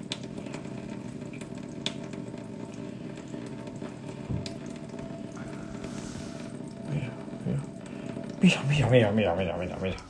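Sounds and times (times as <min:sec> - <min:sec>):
kitchen hum and hiss: 0:00.0 - 0:10.0.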